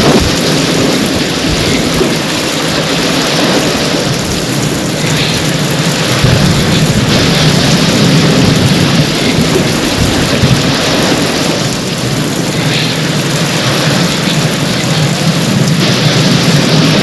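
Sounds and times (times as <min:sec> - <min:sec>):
heavy rain pouring: 0:00.0 - 0:17.0
low thunder rumble: 0:00.0 - 0:17.0.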